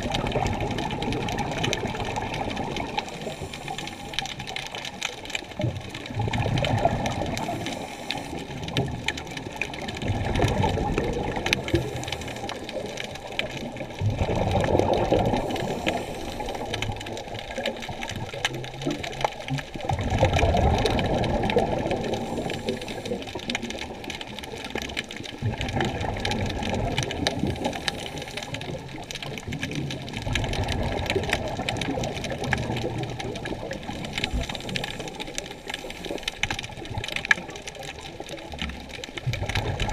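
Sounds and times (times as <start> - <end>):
muffled underwater water rush: 0.0 - 39.9.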